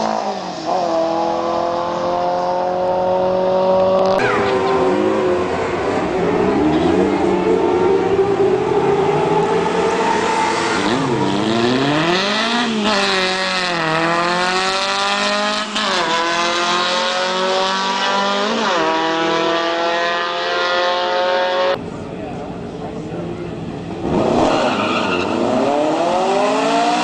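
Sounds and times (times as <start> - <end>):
car engine accelerating hard: 0.0 - 21.8, 23.6 - 27.0.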